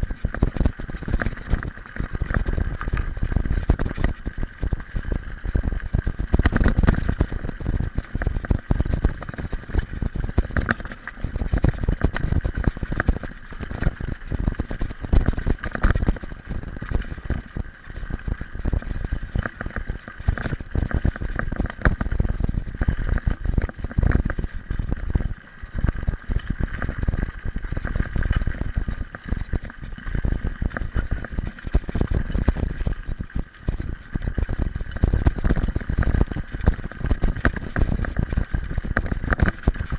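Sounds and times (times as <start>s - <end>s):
bike frame rattling: 0.0s - 39.9s
bike tyres rolling on gravel: 0.0s - 39.9s.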